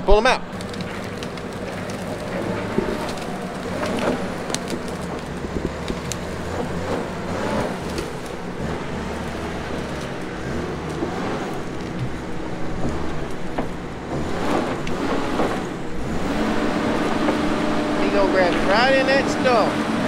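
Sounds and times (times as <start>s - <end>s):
diesel engine under load: 0.0s - 20.0s
logs cracking and scraping: 0.0s - 20.0s.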